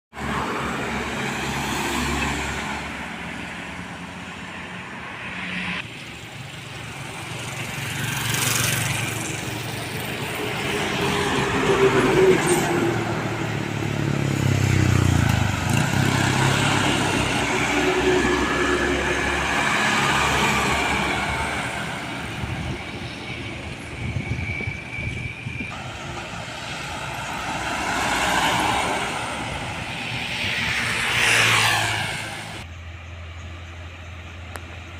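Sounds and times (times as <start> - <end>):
diesel trucks passing: 0.1 - 34.9.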